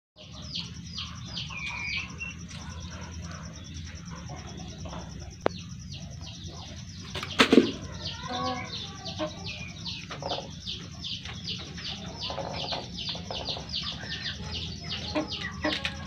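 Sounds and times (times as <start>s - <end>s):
chicks peeping: 0.2s - 16.0s.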